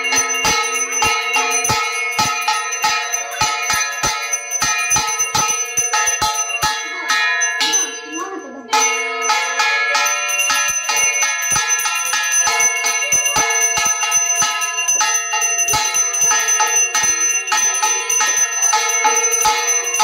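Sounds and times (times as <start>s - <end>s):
hand bell rung rapidly: 0.0s - 20.0s.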